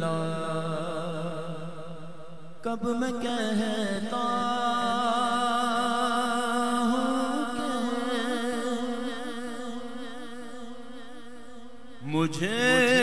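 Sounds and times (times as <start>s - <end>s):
devotional chant: 0.0s - 13.0s.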